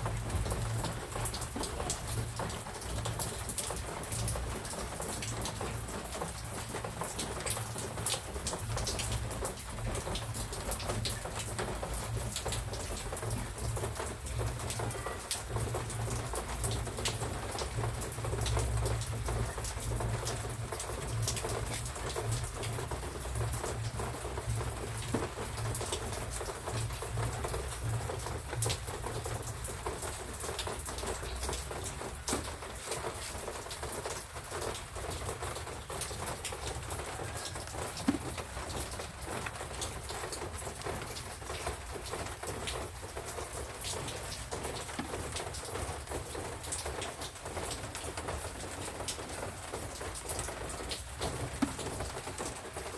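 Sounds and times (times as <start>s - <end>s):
rain pattering on surfaces: 0.0s - 52.9s.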